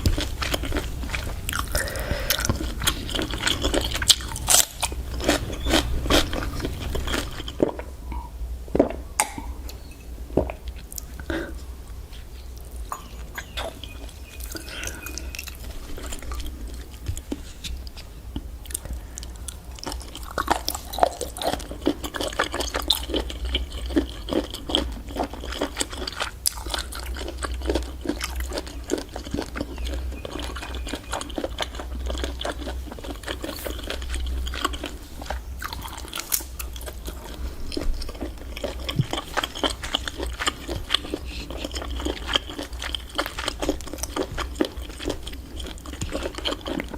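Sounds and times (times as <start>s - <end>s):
wet crackly chewing: 0.0s - 8.2s, 8.8s - 46.9s
steady low hum: 0.0s - 46.9s.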